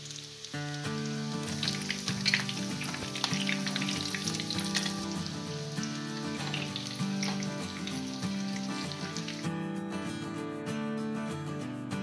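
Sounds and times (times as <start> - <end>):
oil sizzling and crackling: 0.0 - 10.4
background music: 0.0 - 12.0.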